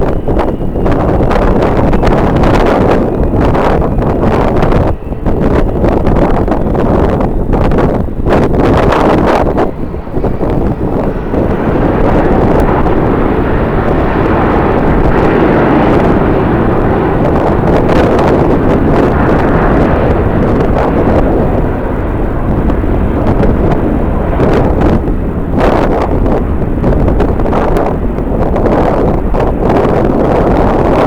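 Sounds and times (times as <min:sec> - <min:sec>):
jet airliner engine passing: 0:00.0 - 0:31.0
wind buffeting microphone: 0:00.0 - 0:31.0.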